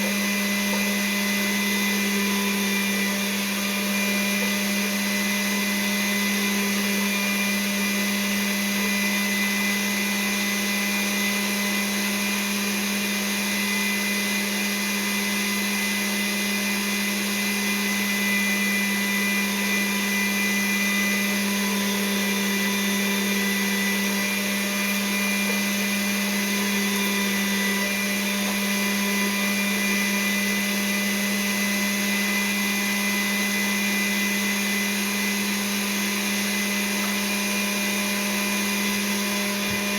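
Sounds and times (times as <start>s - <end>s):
food mixer motor humming: 0.0s - 39.9s.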